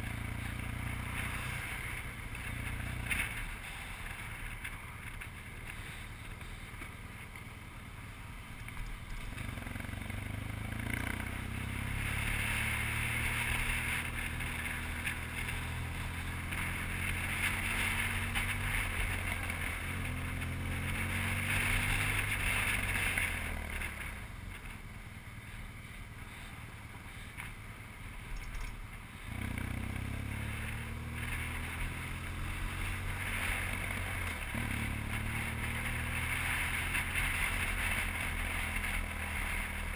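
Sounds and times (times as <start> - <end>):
motorcycle engine at road speed: 0.0 - 39.9.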